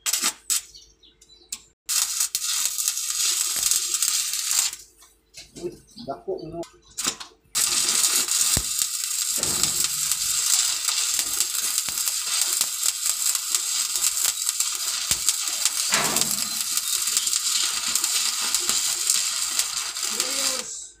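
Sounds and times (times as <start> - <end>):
arc welding crackling sizzle: 0.0 - 0.7, 1.5 - 5.5, 6.9 - 21.0.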